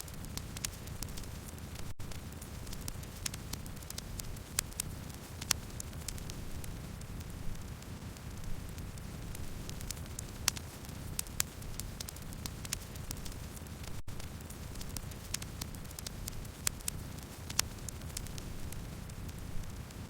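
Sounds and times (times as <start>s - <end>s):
burning wood crackling and popping: 0.0s - 20.0s
campfire flames rumbling: 0.2s - 20.0s.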